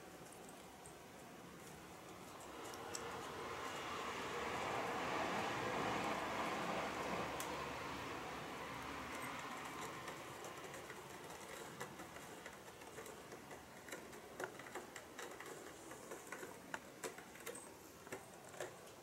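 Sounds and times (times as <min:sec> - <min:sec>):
cat scratching and clicking: 0:01.5 - 0:19.0.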